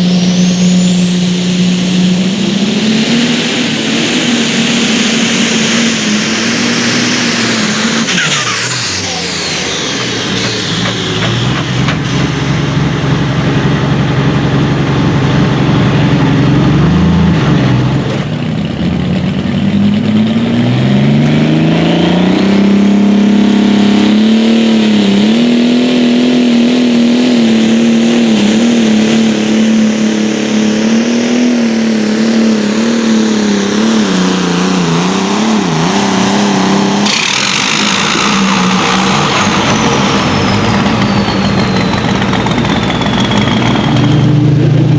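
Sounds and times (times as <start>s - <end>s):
pulling vehicle engine revving: 0.0s - 44.9s.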